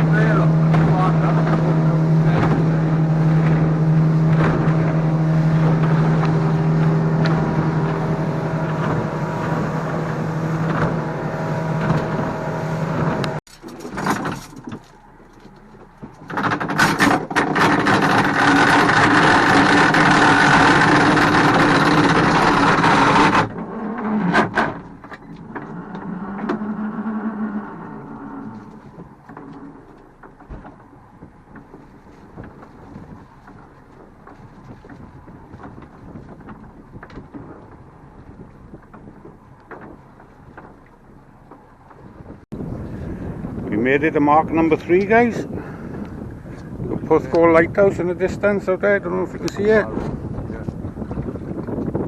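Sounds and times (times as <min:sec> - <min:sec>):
rush of wind and water: 0:00.0 - 0:14.8, 0:16.0 - 0:52.0
boat engine running: 0:00.0 - 0:52.0.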